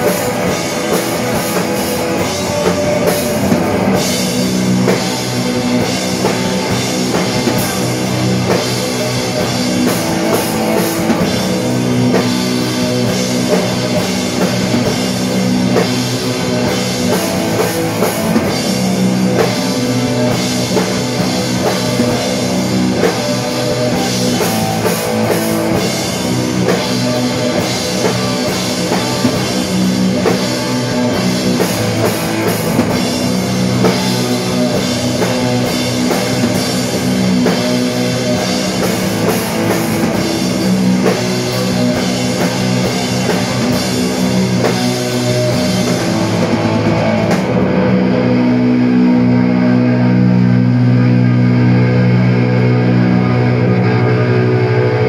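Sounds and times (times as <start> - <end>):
distorted electric guitars: 0.0 - 55.0
drum kit playing: 0.0 - 55.0.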